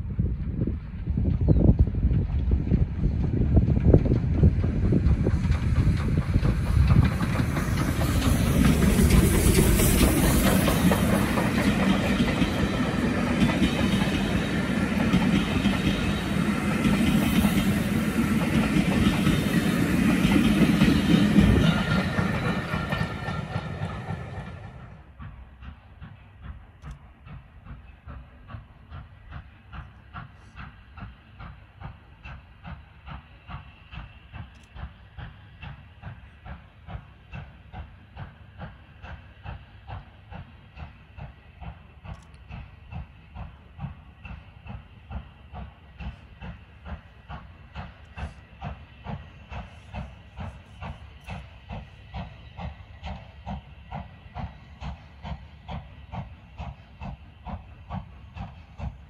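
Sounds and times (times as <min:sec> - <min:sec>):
distant steam locomotive chuffing: 0:00.0 - 0:59.0
steam train rumbling past: 0:00.0 - 0:59.0
wheels clicking over rail joints: 0:02.0 - 0:59.0.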